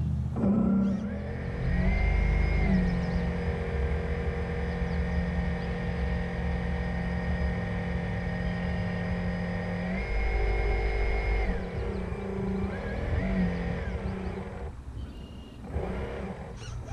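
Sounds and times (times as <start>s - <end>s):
model boat motor whining: 0.0s - 16.9s.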